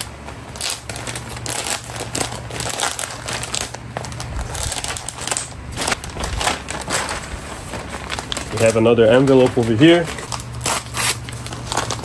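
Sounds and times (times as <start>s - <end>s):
packaging being torn and crumpled: 0.5s - 12.0s.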